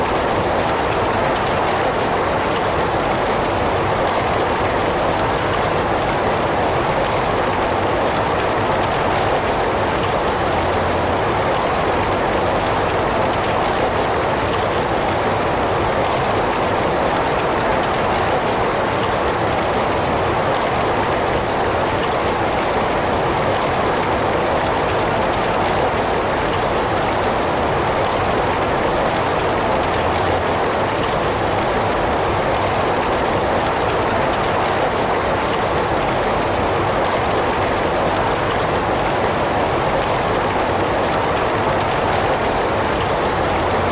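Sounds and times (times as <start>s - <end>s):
heavy rain downpour: 0.0s - 43.9s.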